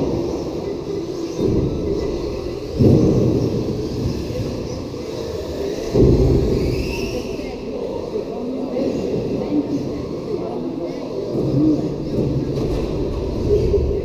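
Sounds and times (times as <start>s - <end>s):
radio-controlled cars running: 0.0s - 14.0s.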